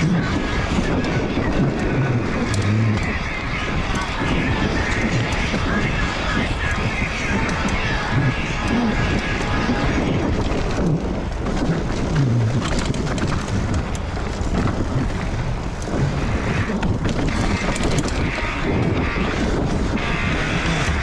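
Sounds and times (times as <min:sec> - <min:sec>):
bike clicks and rattles: 0:00.0 - 0:21.0
bike tyres rolling over dirt: 0:00.0 - 0:21.0.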